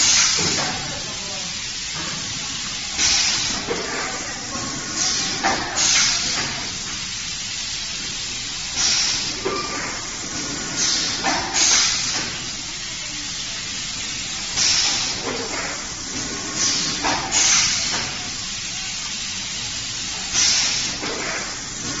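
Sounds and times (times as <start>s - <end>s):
hiss of released air: 0.0s - 22.0s.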